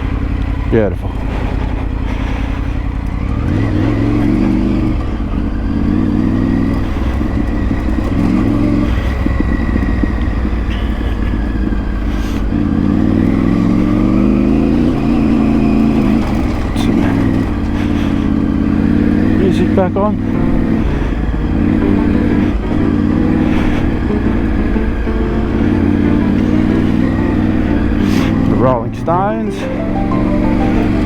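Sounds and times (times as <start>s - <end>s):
motorcycle engine revving: 0.0s - 31.0s
road noise: 0.0s - 31.0s.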